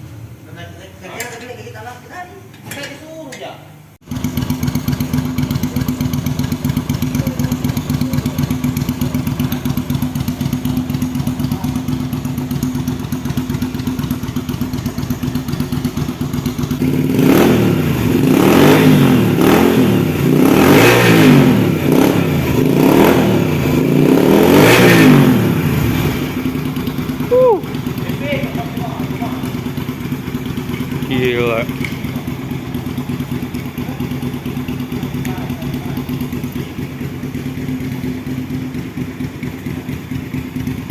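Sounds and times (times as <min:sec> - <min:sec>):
motorcycle engine idling and revving: 0:04.0 - 0:40.9.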